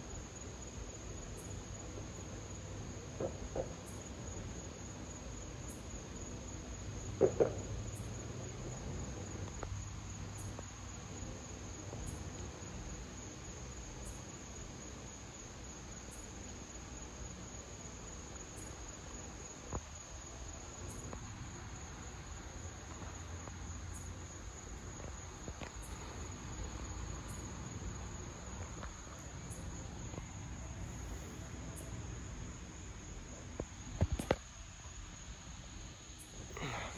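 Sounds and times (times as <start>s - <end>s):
crickets trilling: 0.0s - 36.9s.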